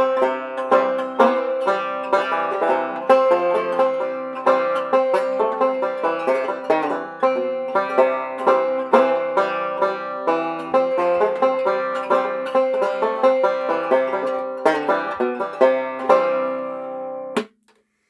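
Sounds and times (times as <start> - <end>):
banjo picking: 0.0 - 17.5.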